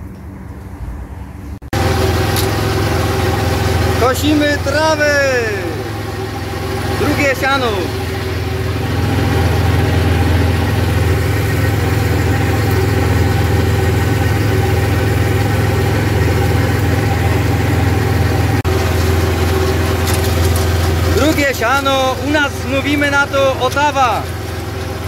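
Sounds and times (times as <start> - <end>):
tractor diesel engine under load: 1.6 - 25.0.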